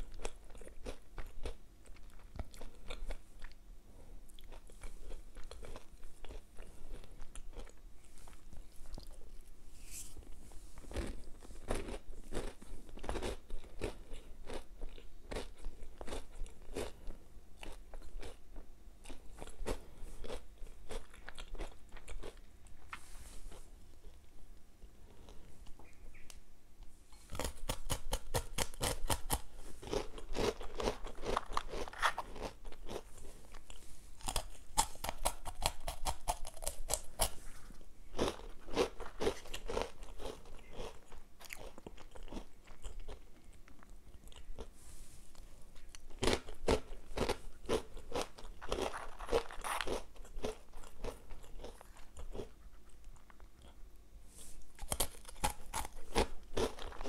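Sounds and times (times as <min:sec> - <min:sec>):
crunching and chewing breadsticks: 0:00.0 - 0:26.3, 0:27.1 - 0:53.9, 0:54.5 - 0:57.0.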